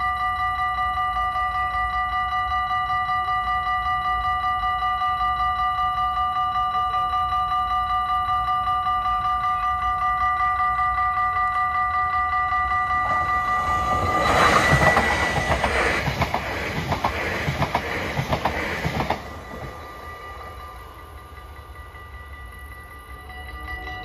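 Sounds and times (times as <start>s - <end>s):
electric train passing: 0.0s - 24.0s
level-crossing warning bell: 0.0s - 24.0s.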